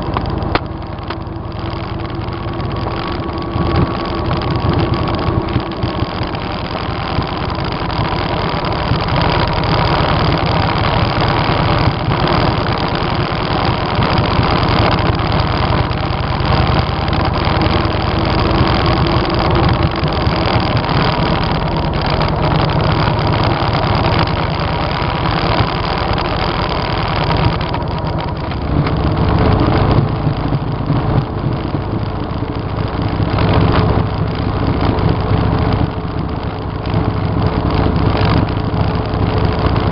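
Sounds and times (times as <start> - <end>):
motorcycle engine running: 0.0 - 39.9
wind noise rushing: 0.0 - 39.9.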